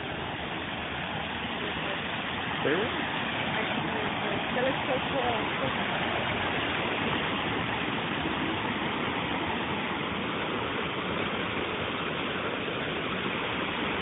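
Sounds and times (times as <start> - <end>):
rain pouring: 0.0 - 14.0.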